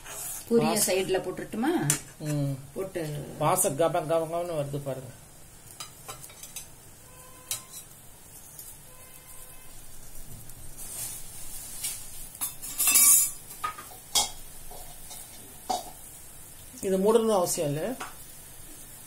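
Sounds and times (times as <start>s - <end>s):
faint sizzle of simmering gravy: 0.0s - 19.0s.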